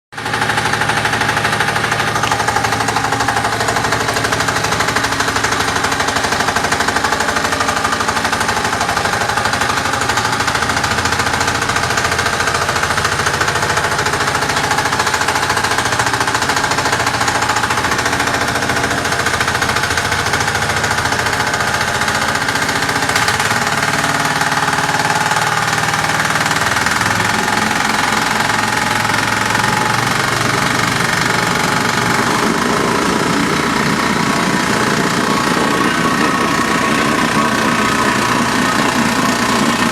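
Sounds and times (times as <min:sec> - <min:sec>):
vibratory road roller engine rattling: 0:00.1 - 0:39.9.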